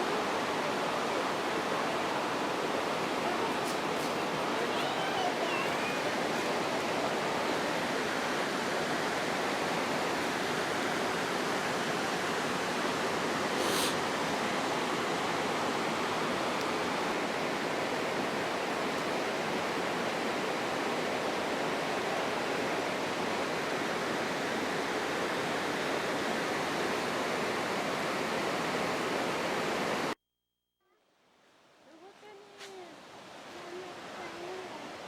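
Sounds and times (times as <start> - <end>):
fast-flowing water rushing: 0.0 - 30.2, 32.3 - 35.0.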